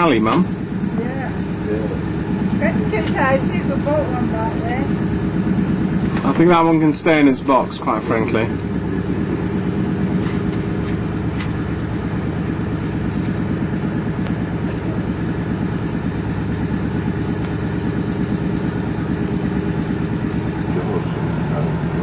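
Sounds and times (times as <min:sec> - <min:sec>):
boat diesel engine running: 0:00.0 - 0:22.0.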